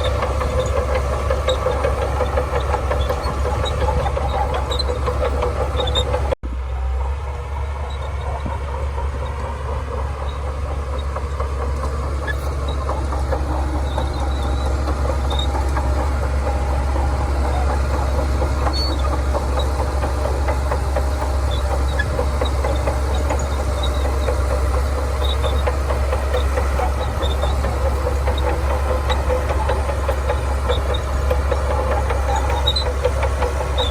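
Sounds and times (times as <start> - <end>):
faint high squeaks: 0.0 - 6.4, 7.6 - 33.9
bulldozer diesel engine running: 0.0 - 33.9
rattling clatter of tracks: 0.0 - 33.9.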